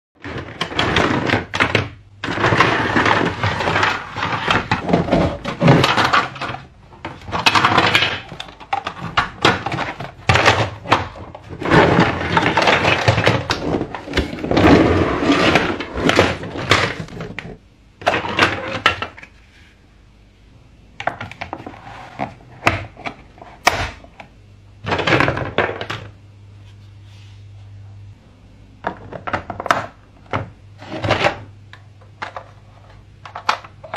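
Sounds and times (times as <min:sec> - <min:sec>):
plastic pieces knocking: 0:00.2 - 0:19.4, 0:21.0 - 0:24.1, 0:24.8 - 0:26.2, 0:28.8 - 0:33.9.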